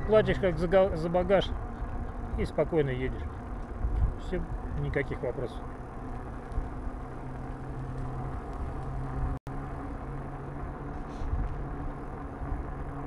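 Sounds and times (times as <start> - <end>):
electric bike motor and tyres humming: 0.0 - 13.0
low rumble: 0.0 - 13.0.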